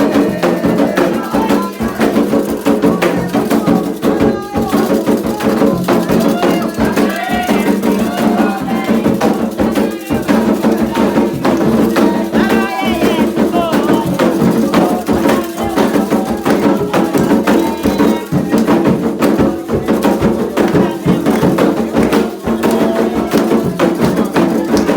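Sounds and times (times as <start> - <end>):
hand drums and rattles: 0.0 - 24.9
struck bell rhythm: 0.0 - 24.9
voices singing a chant: 0.0 - 24.9.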